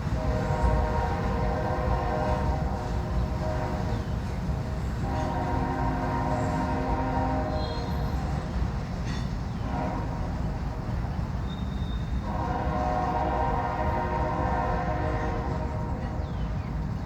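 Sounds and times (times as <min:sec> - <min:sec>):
train air horn blasts: 0:00.0 - 0:10.9, 0:11.5 - 0:16.6
diesel locomotives rumbling: 0:00.0 - 0:17.0.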